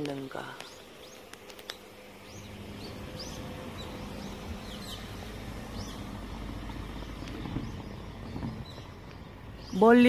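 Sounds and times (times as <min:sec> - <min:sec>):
birds chirping: 0:00.0 - 0:10.0
low steady rumble: 0:01.9 - 0:10.0.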